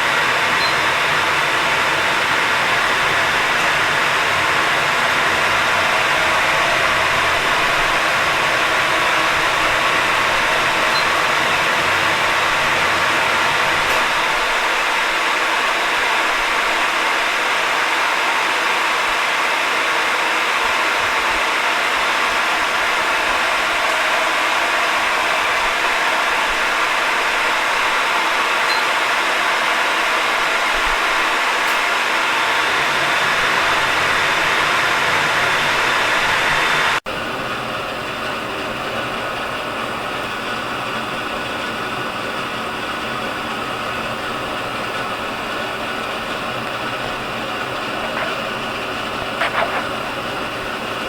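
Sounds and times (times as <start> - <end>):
appliance motor and fan whirring: 0.0 - 51.0.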